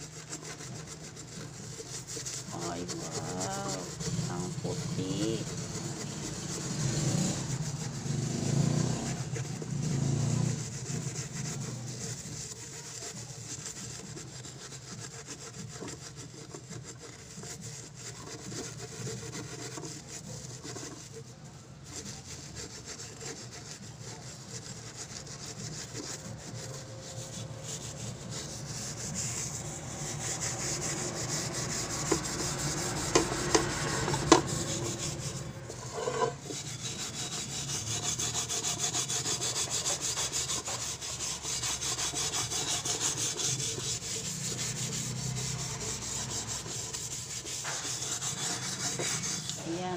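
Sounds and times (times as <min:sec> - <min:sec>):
steel wool scouring pan: 0:00.0 - 0:49.9.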